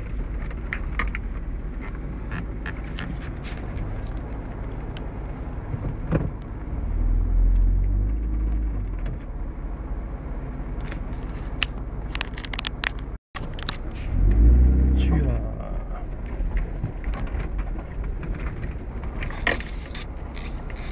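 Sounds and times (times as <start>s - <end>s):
engine rumbling: 0.0s - 20.9s.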